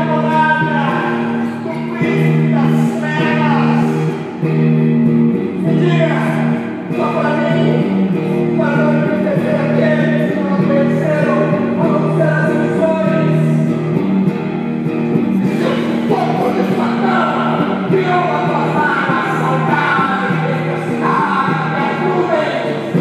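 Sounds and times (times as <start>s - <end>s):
electric guitar through amplifier: 0.0s - 23.0s.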